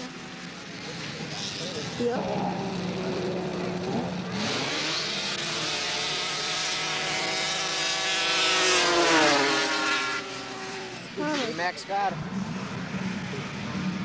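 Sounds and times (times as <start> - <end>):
snowmobiles accelerating past: 0.8 - 14.0.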